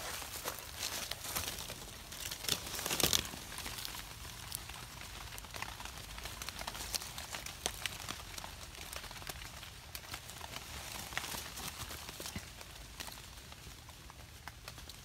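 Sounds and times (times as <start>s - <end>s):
wet leaves rustling and crinkling: 0.0s - 15.0s.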